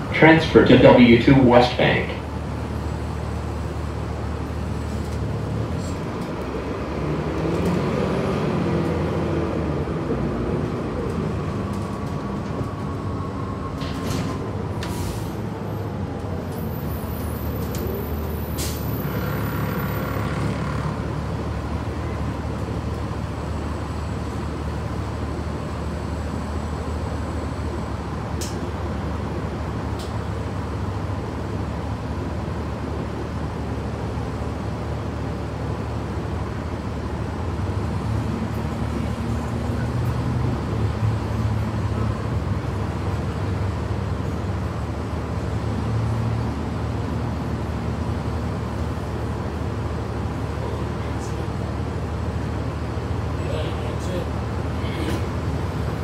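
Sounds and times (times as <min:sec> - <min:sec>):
bus engine and road noise: 0:00.0 - 0:56.0.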